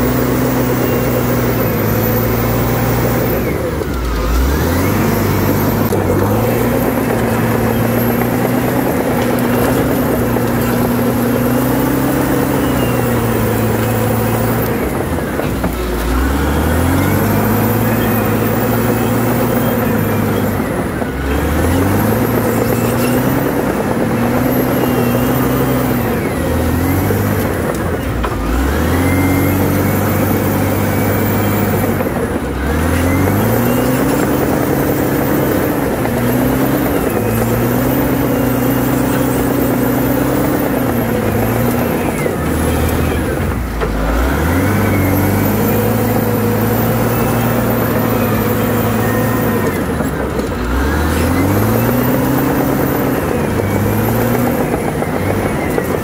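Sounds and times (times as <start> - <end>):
bulldozer diesel engine running hard: 0.0 - 56.0.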